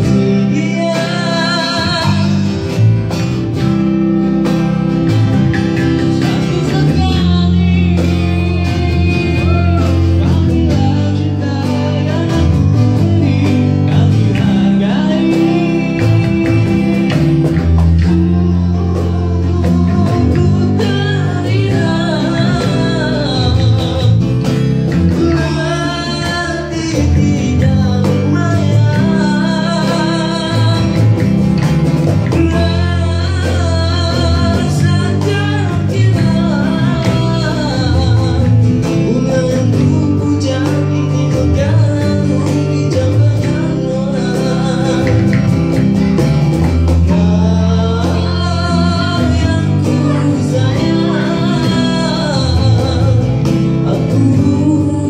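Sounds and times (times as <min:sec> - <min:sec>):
male singer singing: 0:00.0 - 0:02.9, 0:05.7 - 0:31.4, 0:32.1 - 0:46.0, 0:46.9 - 0:55.0
acoustic band playing: 0:00.0 - 0:55.0.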